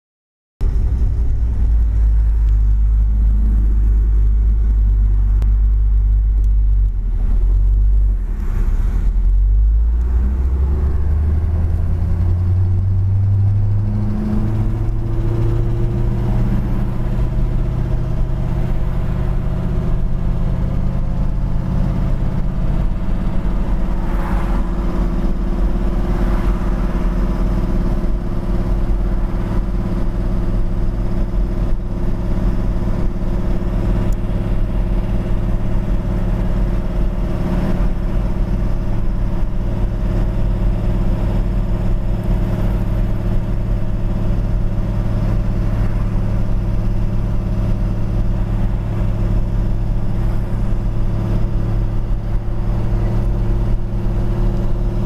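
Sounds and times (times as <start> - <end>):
car engine low rumble: 0.6 - 55.0.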